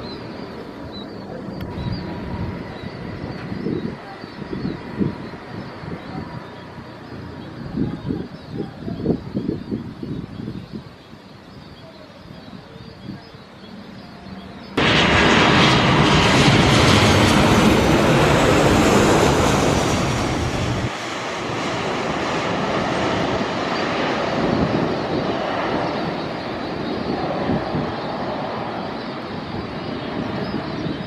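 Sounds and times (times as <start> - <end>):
jet engines rushing: 0.0 - 11.6, 13.0 - 31.0
faint high engine whine: 0.0 - 31.0.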